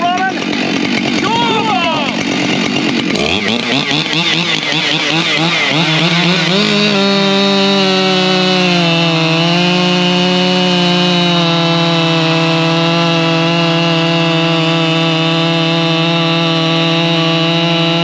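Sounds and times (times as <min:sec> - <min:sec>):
chainsaw at full throttle: 0:00.0 - 0:18.0.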